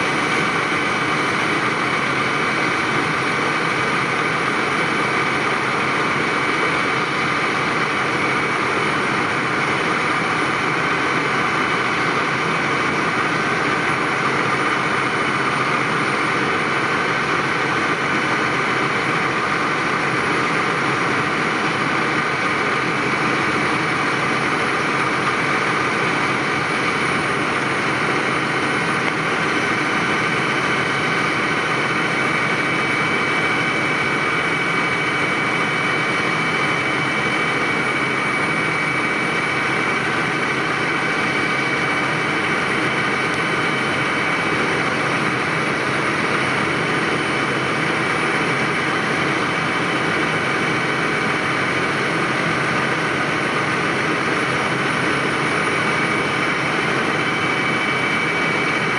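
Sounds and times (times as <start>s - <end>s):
fire engine engine drone: 0.0s - 58.9s
thin steady pump whine: 0.0s - 58.9s.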